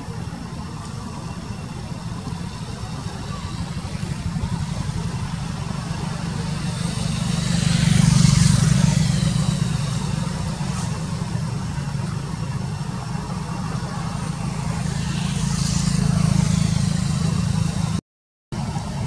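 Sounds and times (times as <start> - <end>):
motor engine humming: 0.0 - 18.0.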